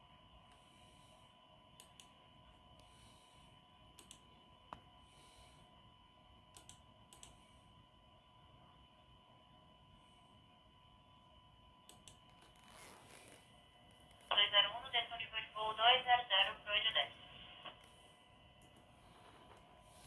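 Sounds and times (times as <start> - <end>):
faint steady electronic tone: 0.0 - 12.5, 13.3 - 20.0.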